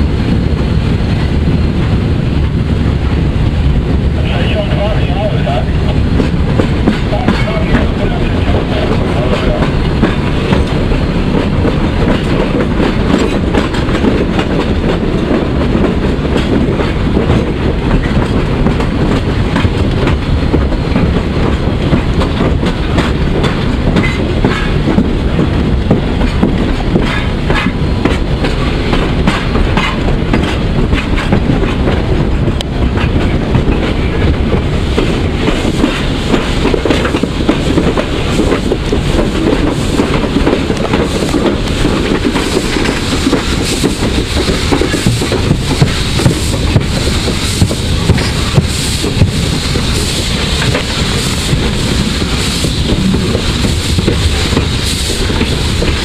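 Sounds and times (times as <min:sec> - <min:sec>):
steam locomotive rumble: 0:00.0 - 0:56.0
wheels clacking over rail joints: 0:05.8 - 0:56.0.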